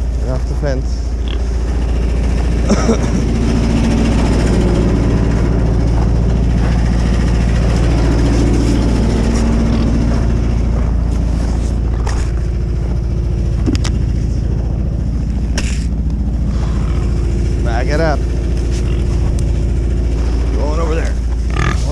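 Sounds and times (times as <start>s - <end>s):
vehicle engine running: 0.0s - 21.9s.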